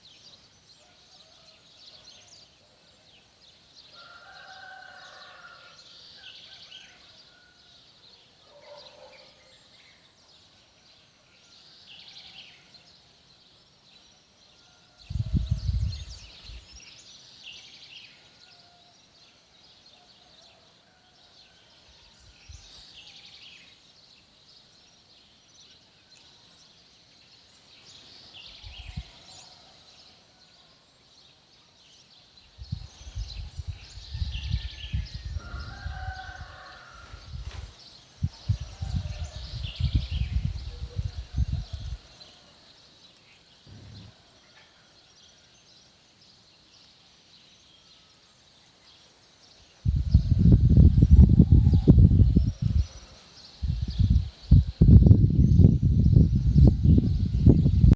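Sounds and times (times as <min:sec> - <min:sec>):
birds singing and calling: 0:00.0 - 0:57.9.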